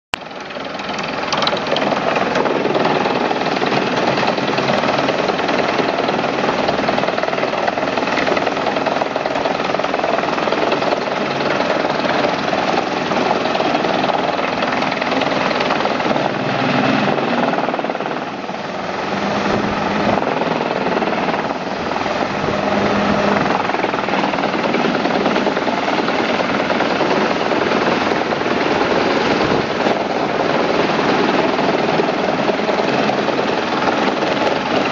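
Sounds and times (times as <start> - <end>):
wood chipper running: 0.2 - 34.9.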